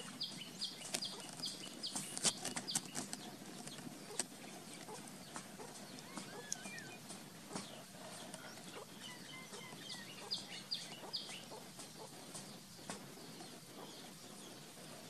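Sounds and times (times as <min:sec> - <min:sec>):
birds chirping: 0:00.0 - 0:15.0
faint rural background noise: 0:00.0 - 0:15.0.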